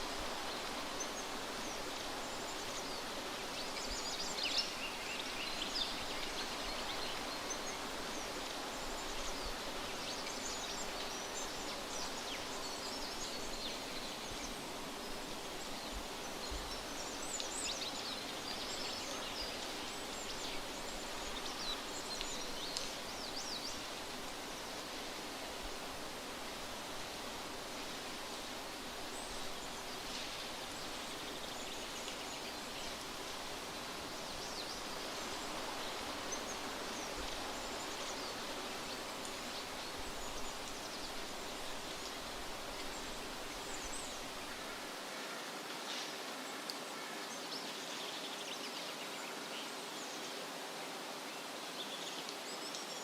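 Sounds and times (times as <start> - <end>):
songbirds chirping: 0.0 - 53.0
wind rustling leaves: 0.0 - 53.0.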